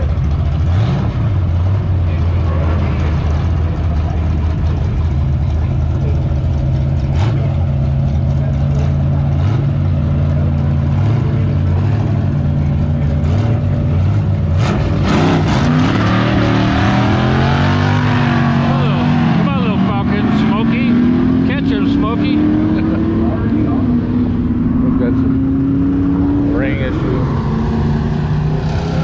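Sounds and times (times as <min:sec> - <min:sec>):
drag car engines revving: 0:00.0 - 0:29.0.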